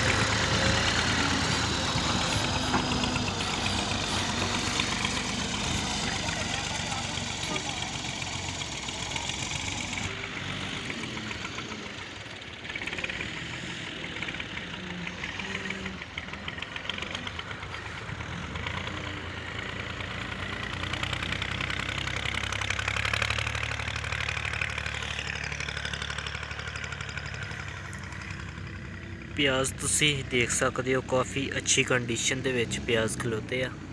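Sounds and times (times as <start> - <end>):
tractor diesel engines running: 0.0 - 33.9.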